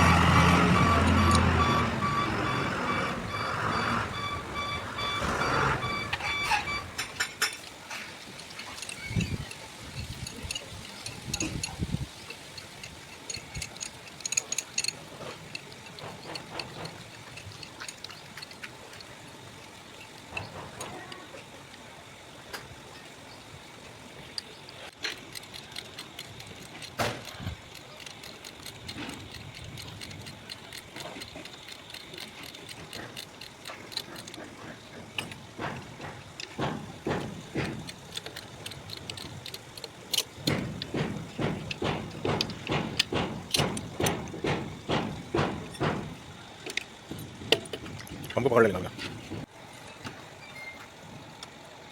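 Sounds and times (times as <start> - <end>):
metal tools clinking on engine parts: 3.2 - 21.6, 24.3 - 51.0.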